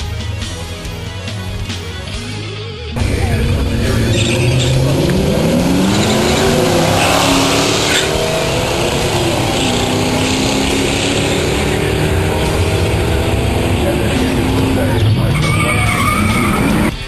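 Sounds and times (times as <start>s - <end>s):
car engine accelerating hard: 3.0s - 17.0s.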